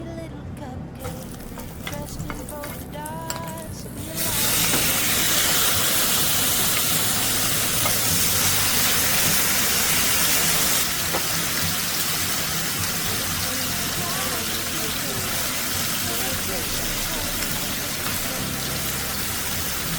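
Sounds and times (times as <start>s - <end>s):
food sizzling in frying pan: 1.0s - 19.9s.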